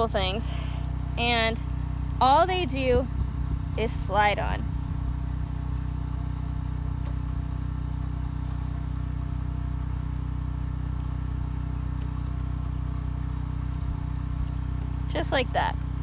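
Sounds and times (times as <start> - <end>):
machine engine humming: 0.0 - 16.0.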